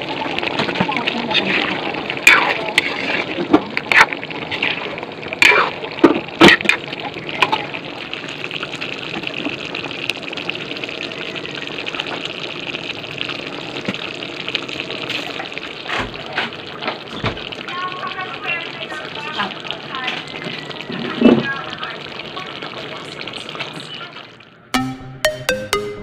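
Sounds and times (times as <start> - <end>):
pot simmering and bubbling: 0.0 - 24.8.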